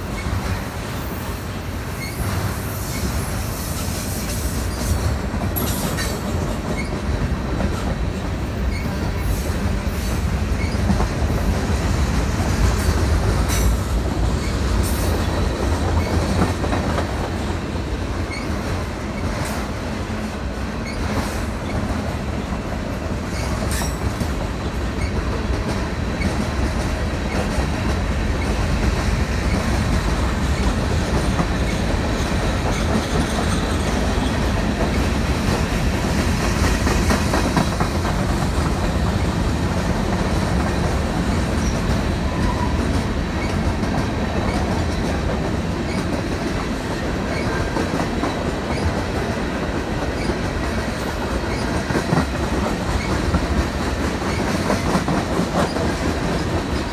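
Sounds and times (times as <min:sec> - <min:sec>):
clickety-clack of train wheels: 0:00.0 - 0:56.9
train wheels rumbling on rails: 0:00.0 - 0:56.9.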